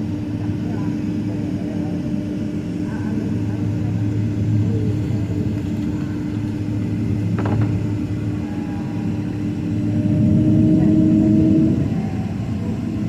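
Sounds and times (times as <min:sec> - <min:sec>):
aircraft engine hum: 0:00.0 - 0:13.0.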